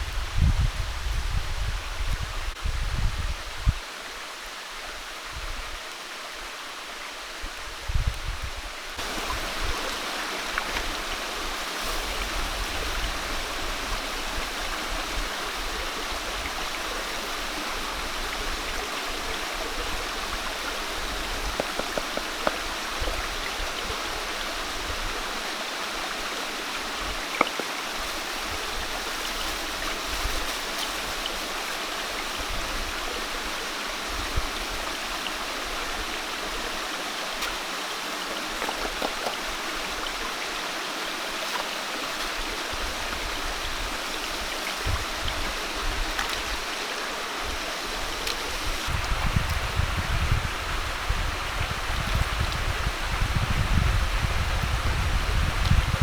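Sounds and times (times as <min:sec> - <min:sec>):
running water rushing: 0:03.8 - 0:56.0.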